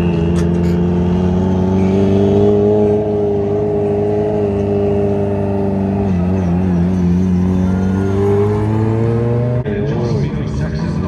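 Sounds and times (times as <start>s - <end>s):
car engine at steady revs: 0.0s - 11.0s.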